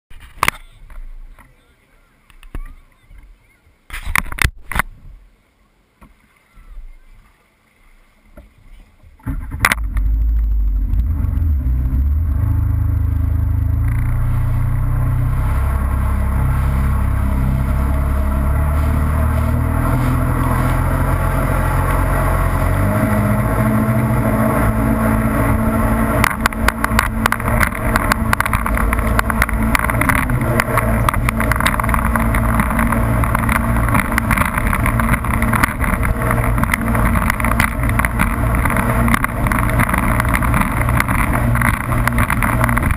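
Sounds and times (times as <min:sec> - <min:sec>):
jet ski engine: 0:06.1 - 0:42.9
hull hitting water with spray: 0:08.3 - 0:42.9.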